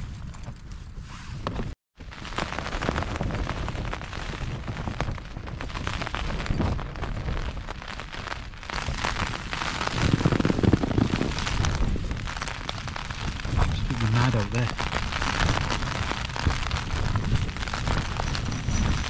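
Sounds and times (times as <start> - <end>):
heavy rain on tent fabric: 0.0 - 19.0
tent fabric flapping: 0.0 - 19.0.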